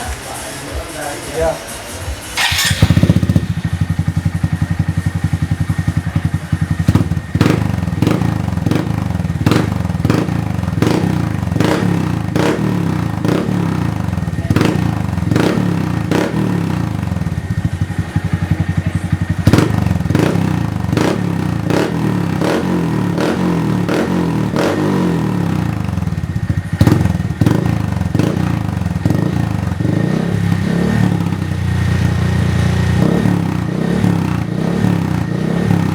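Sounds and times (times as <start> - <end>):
motorcycle engine idling: 2.0 - 35.9.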